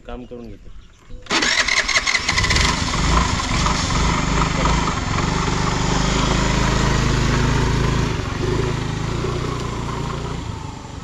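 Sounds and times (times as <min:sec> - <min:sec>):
scooter engine pulling away: 0:01.3 - 0:11.0.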